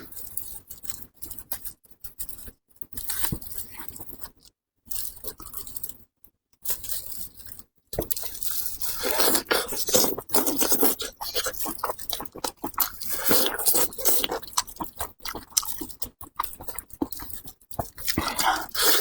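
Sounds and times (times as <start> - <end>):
chewing and tearing meat: 0.2 - 6.0, 6.6 - 19.0.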